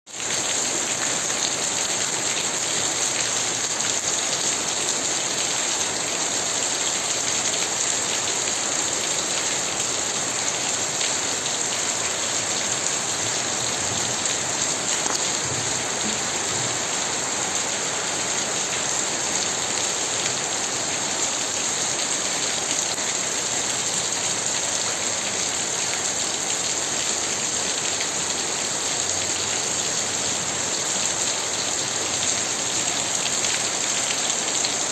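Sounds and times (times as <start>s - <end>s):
steady rain pattering: 0.1s - 34.9s.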